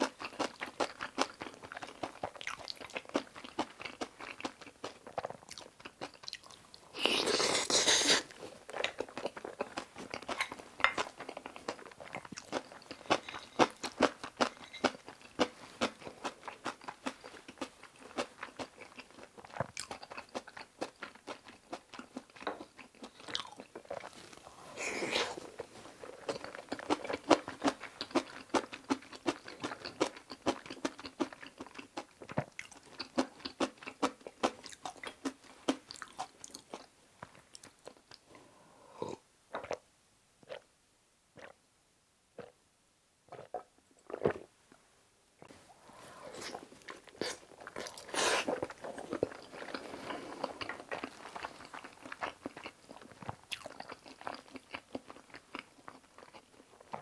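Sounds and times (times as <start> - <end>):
close chewing with moist mouth clicks: 0.0 - 24.4, 25.1 - 38.3, 41.4 - 41.6, 46.3 - 57.0.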